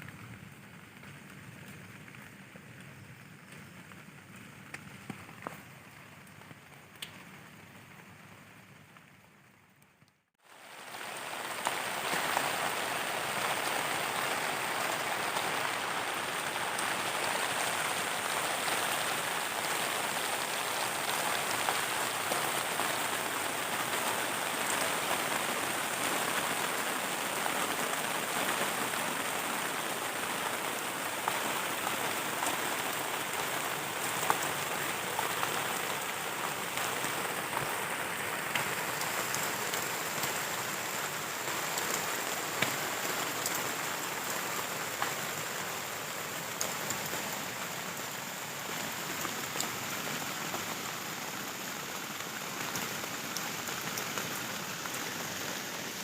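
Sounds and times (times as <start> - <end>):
heavy rain on a tent: 0.0 - 56.0.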